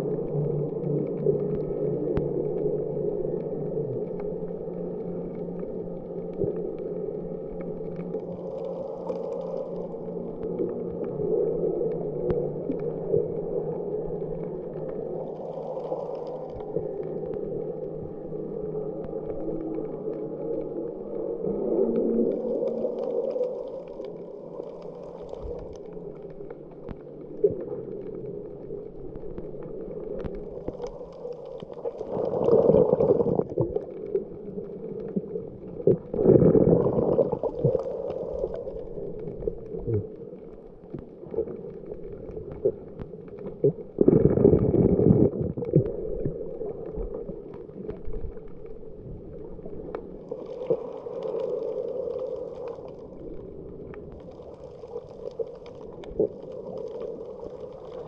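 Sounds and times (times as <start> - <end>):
muffled underwater rush: 0.0 - 58.0
water surges: 0.0 - 58.0.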